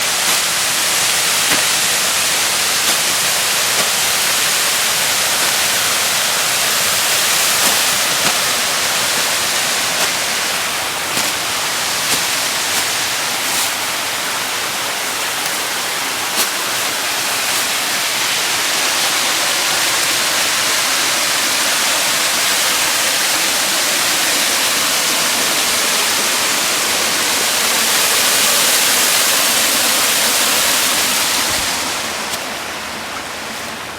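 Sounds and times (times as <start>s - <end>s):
waterfall pouring and splashing: 0.0s - 33.9s.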